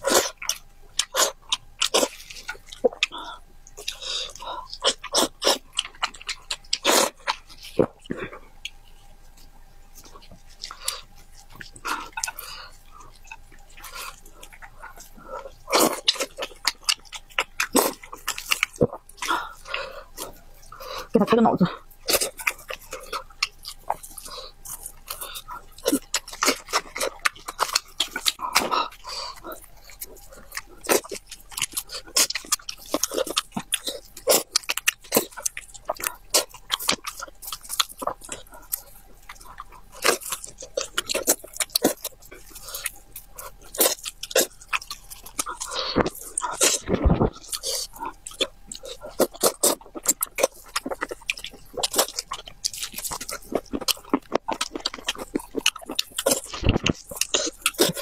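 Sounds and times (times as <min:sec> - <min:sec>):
chewing: 0:00.0 - 0:58.0.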